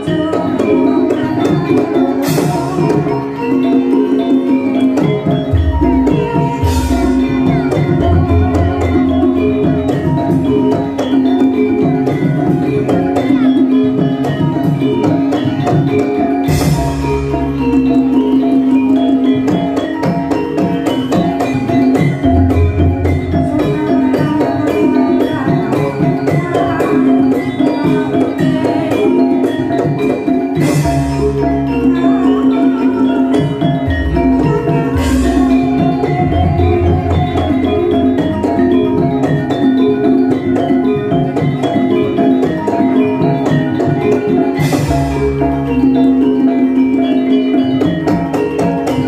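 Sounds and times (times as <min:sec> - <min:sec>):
drum strokes: 0:00.0 - 0:49.0
metallophones ringing melody: 0:00.0 - 0:49.0.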